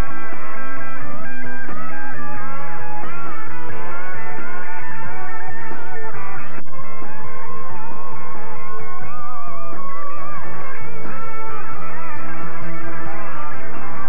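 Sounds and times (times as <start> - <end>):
guitar-led rock music: 0.0 - 14.0.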